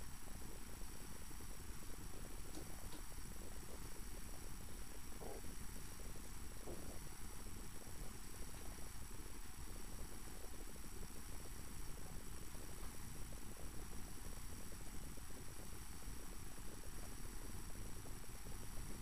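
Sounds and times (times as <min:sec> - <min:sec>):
electrical hum and hiss: 0:00.0 - 0:19.0.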